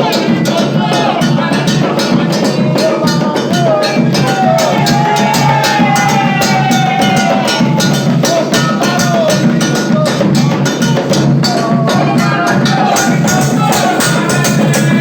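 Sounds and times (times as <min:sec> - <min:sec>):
drums playing a dense rhythm: 0:00.0 - 0:15.0.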